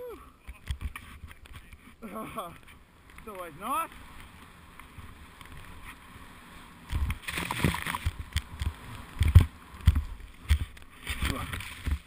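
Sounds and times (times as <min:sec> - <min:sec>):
snow spraying with rushing hiss: 0:01.9 - 0:12.0.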